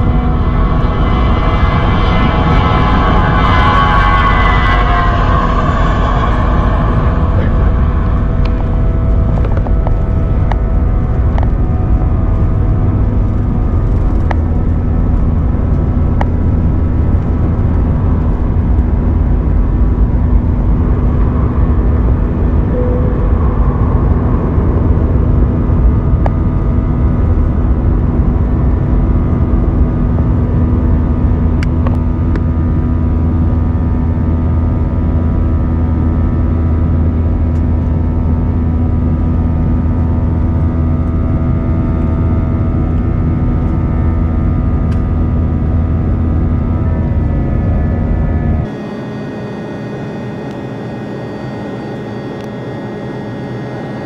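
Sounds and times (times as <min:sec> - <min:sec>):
jet engines at high power: 0:00.0 - 0:54.0.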